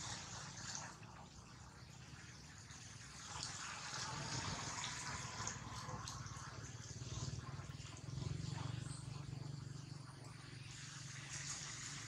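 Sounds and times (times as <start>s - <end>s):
running trickling water: 0.0s - 12.0s.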